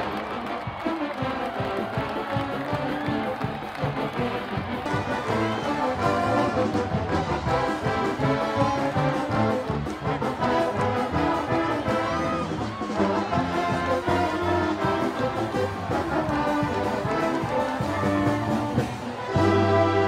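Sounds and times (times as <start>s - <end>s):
brass music melody: 0.0s - 20.0s.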